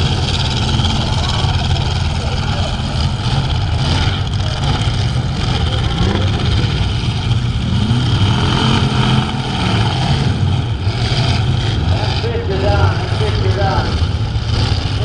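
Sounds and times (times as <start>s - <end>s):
truck engines racing: 0.0s - 15.0s.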